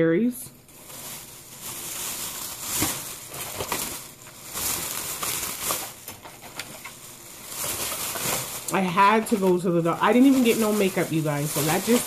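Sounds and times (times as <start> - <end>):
plastic bag rustling: 0.6 - 12.0.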